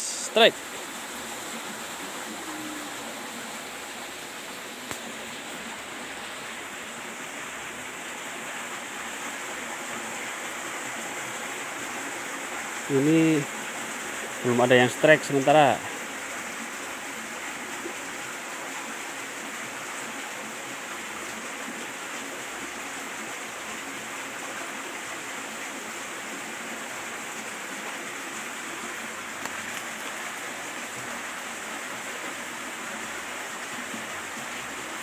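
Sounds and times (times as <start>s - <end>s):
stream water flowing: 0.0s - 35.0s.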